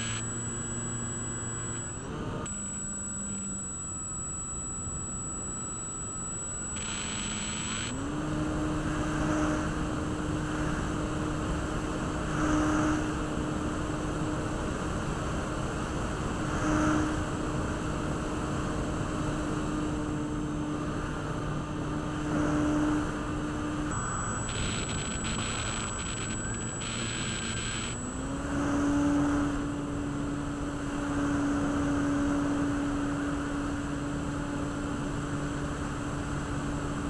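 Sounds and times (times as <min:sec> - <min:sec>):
model plane motor and propeller: 0:00.0 - 0:15.2, 0:22.5 - 0:37.0.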